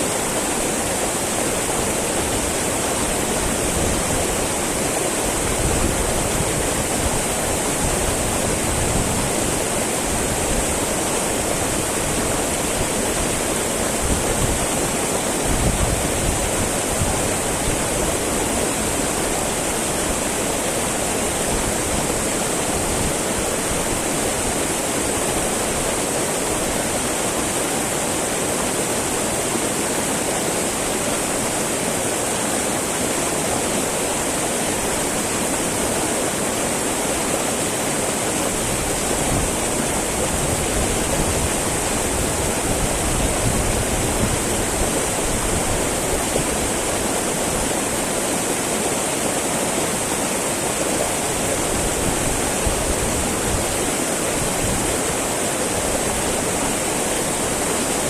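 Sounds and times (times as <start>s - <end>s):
river babbling over rocks: 0.0s - 58.0s.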